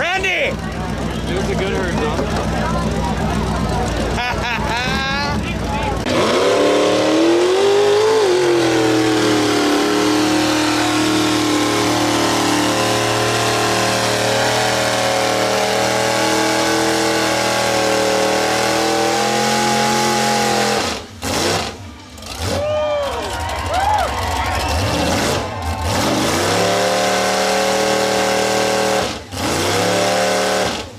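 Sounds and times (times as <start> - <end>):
off-road vehicle engine revving: 0.0 - 30.9.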